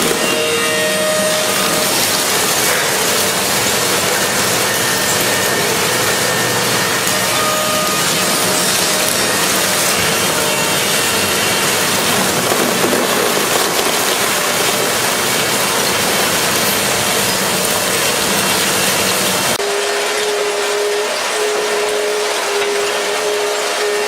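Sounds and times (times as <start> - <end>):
electric fan rushing: 0.0 - 24.0.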